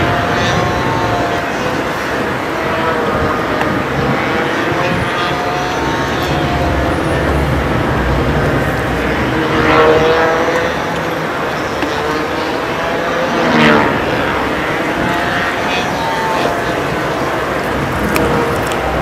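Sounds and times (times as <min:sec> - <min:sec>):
whining motor: 0:00.0 - 0:19.0
wind on microphone: 0:00.0 - 0:19.0.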